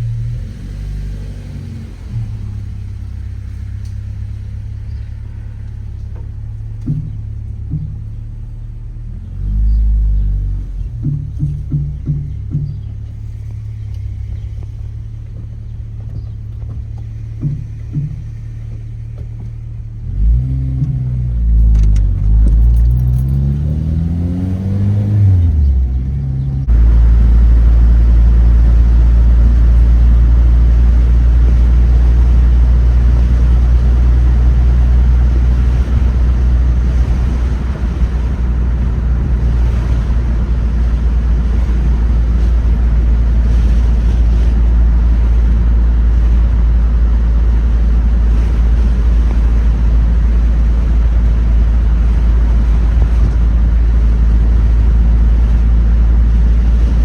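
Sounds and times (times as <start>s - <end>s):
car engine accelerating through gears: 0.0s - 57.0s
engine and road noise cruising: 0.0s - 57.0s.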